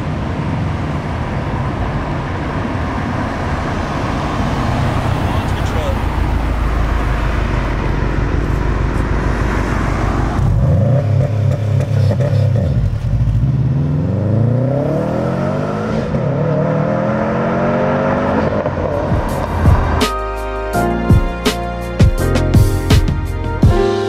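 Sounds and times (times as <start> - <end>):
car engine revving and accelerating: 0.0 - 20.1.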